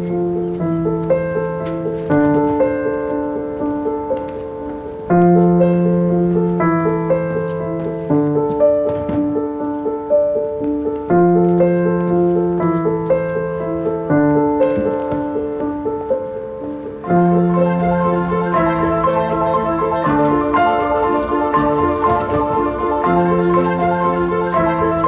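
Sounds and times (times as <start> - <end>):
soft piano music: 0.0 - 25.0.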